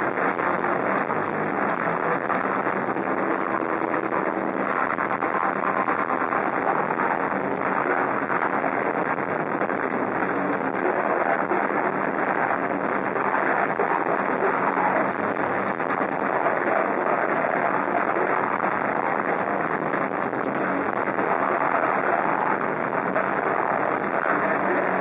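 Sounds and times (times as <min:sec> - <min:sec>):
distorted electric guitars: 0:00.0 - 0:25.0
drums: 0:00.0 - 0:25.0.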